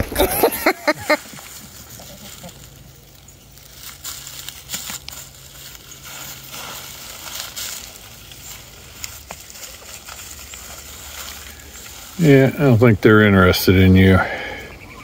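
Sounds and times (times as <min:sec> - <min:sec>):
dry leaves crunching: 0:00.0 - 0:13.0.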